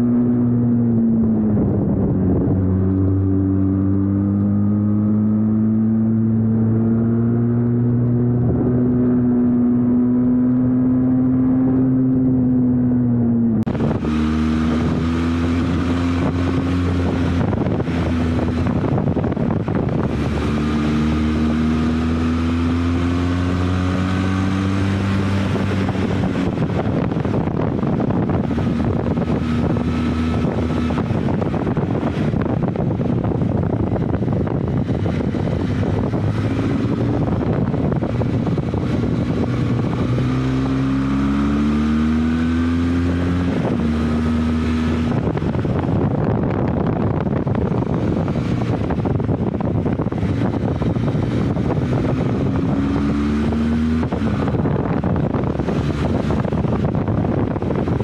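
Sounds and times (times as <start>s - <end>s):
motorcycle engine revving: 0.0s - 58.0s
wind on microphone: 0.0s - 58.0s.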